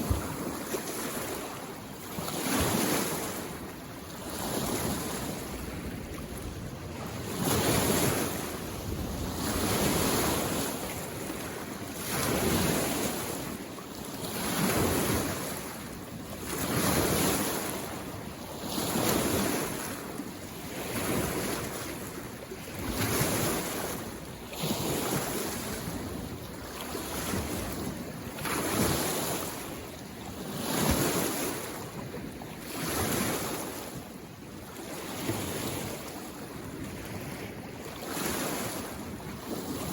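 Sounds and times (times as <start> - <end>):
waves washing against shore: 0.0 - 39.9.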